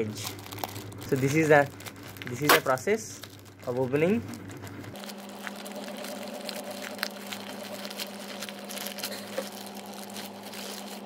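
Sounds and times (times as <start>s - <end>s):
plastic mailer crinkling: 0.0s - 11.0s
steady low hum: 0.0s - 11.0s.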